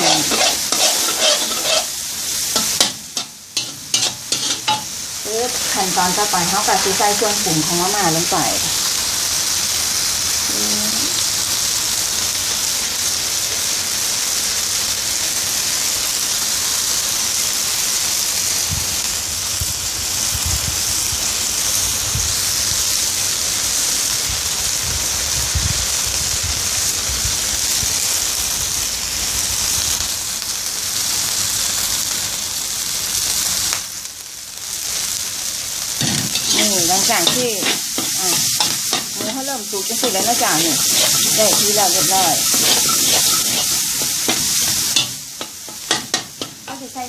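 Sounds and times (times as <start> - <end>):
meat sizzling in a wok: 0.0 - 47.0.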